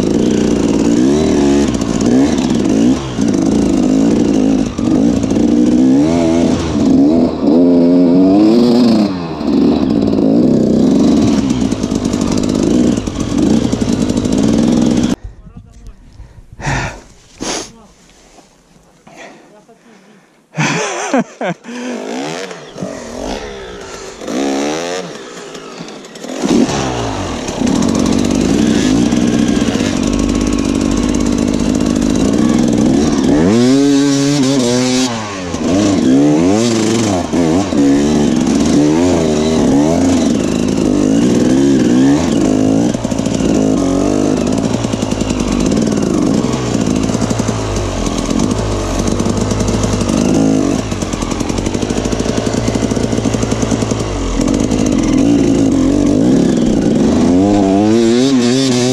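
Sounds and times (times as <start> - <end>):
motorcycle engine revving: 0.0 - 15.2, 20.6 - 58.9.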